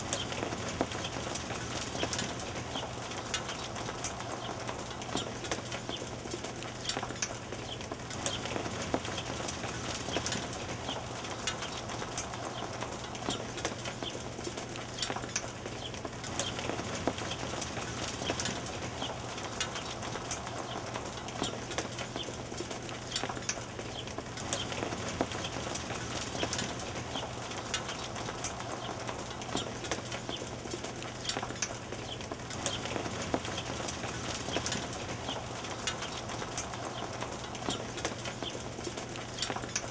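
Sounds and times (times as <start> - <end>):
hail falling: 0.0 - 39.9.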